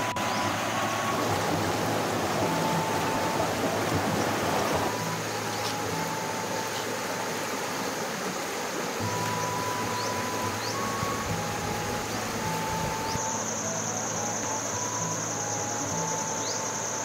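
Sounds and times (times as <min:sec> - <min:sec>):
flowing river water: 0:00.0 - 0:17.0
soft music with long notes: 0:00.0 - 0:17.0.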